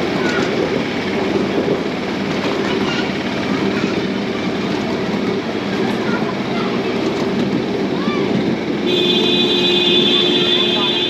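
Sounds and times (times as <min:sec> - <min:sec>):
toy train rumbling on track: 0:00.0 - 0:11.0.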